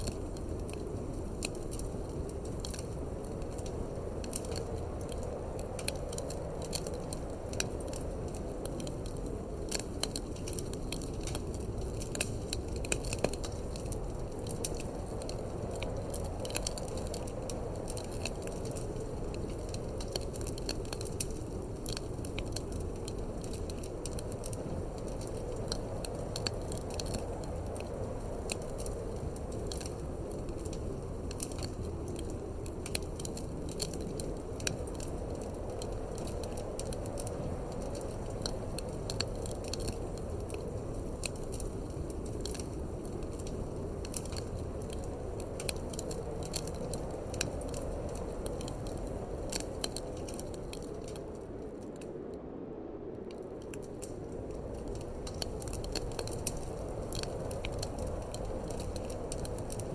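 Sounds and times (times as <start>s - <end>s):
low rumble of wind: 0.0s - 59.9s
wood fire crackling and popping: 0.0s - 59.9s.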